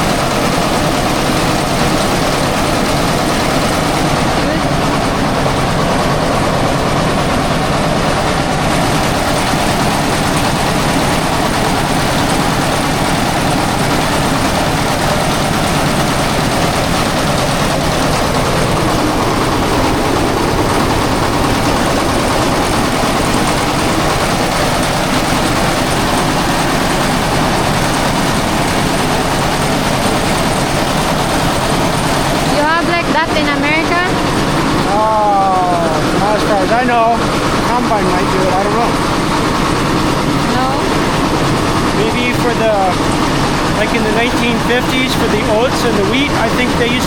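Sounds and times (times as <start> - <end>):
threshing machine running: 0.0 - 47.0.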